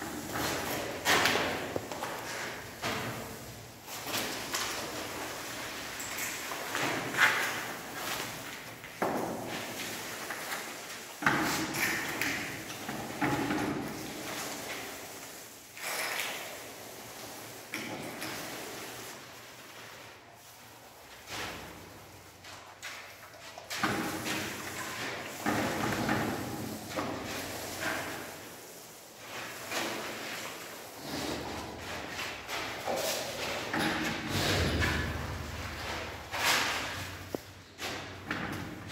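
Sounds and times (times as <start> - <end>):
paint roller rolling on wall: 0.0 - 38.9.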